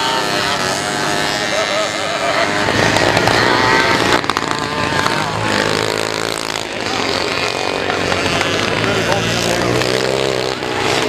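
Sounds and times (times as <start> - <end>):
moped engines buzzing and revving: 0.0 - 11.0.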